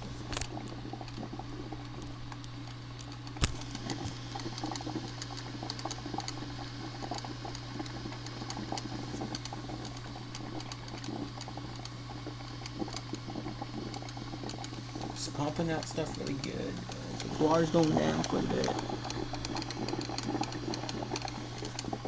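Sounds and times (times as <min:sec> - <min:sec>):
coffee maker water gurgling: 0:00.0 - 0:22.0.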